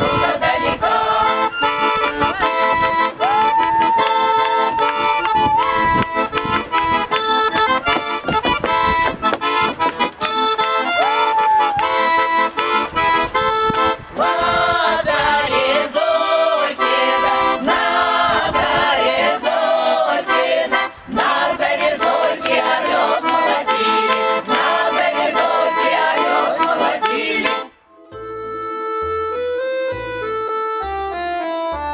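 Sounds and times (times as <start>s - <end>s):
accordion music: 0.0s - 31.9s.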